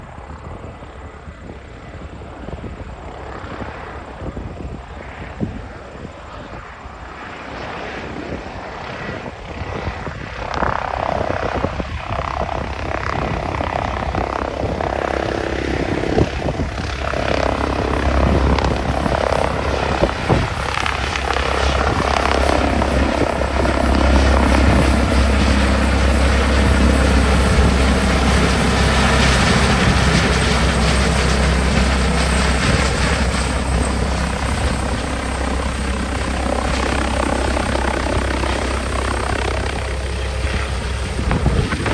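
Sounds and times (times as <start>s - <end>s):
helicopter rotor and turbine: 0.0s - 41.9s.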